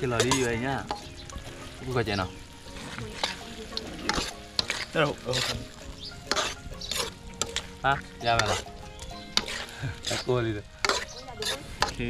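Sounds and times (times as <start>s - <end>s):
metal spoon scraping wok: 0.0s - 12.0s
steady sizzle: 0.0s - 12.0s.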